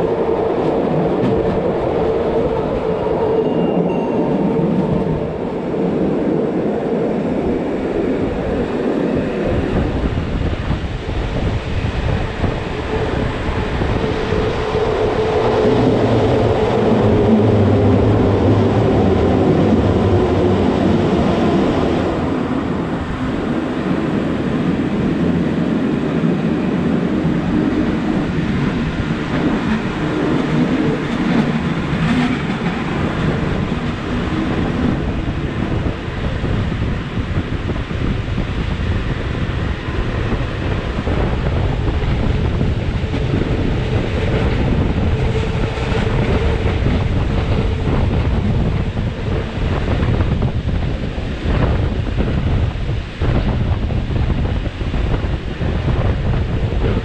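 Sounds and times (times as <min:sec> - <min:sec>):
train wheels rumbling on rails: 0:00.0 - 0:57.0
wind on microphone: 0:00.0 - 0:57.0.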